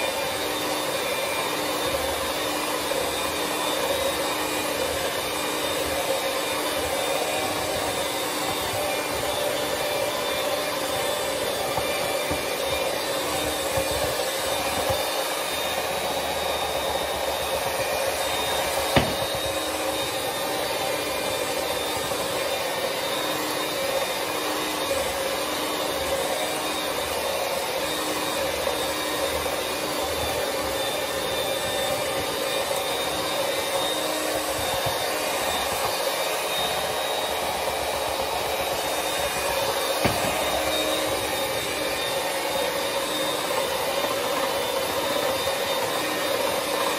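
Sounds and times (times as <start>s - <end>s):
electric hand mixer whirring: 0.0s - 46.9s.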